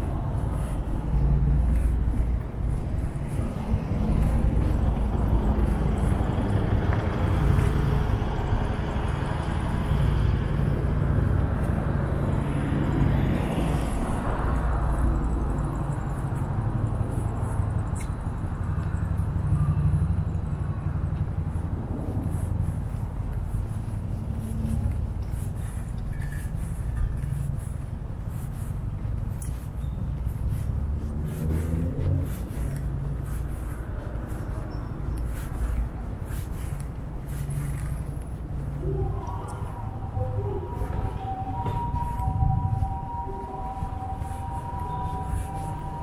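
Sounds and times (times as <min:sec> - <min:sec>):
road traffic rumble: 0:00.0 - 0:46.0
vehicle passing: 0:00.0 - 0:46.0.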